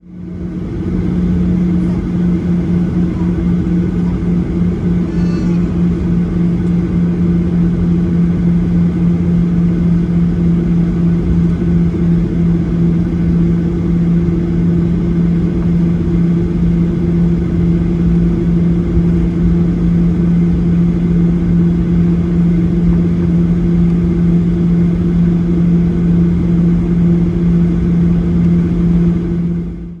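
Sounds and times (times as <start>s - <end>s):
jet airliner taxiing: 0.1s - 29.8s.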